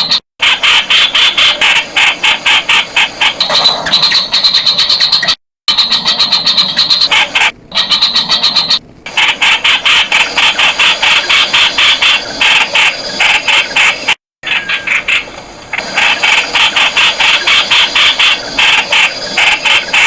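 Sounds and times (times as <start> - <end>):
birds calling harshly: 0.0 - 20.0.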